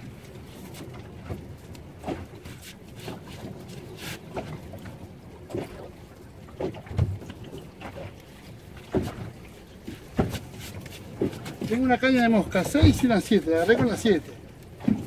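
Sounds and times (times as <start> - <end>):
water slapping boat hull: 0.0 - 15.0.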